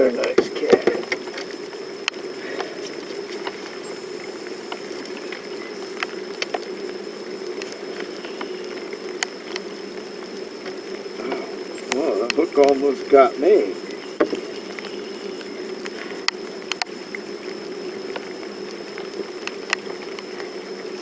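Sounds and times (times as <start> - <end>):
light rain pattering: 0.0 - 21.0
sharp ticks of raindrops: 0.0 - 21.0.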